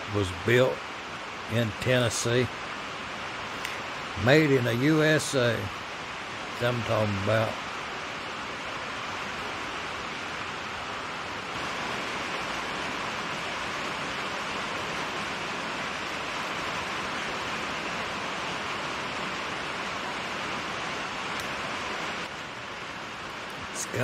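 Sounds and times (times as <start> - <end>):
rain on a metal roof: 0.0 - 24.0.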